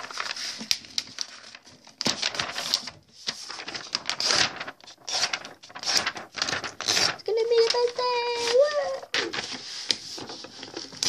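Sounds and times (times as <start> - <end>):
paper tearing: 0.0 - 11.0.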